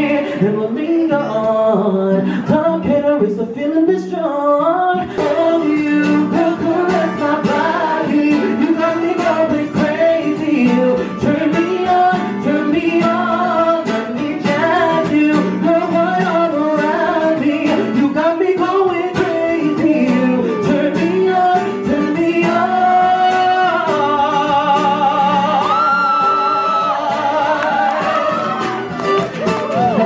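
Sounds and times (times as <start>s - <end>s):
man singing into a microphone: 0.0s - 28.4s, 29.7s - 30.0s
acoustic-electric guitar: 0.0s - 30.0s.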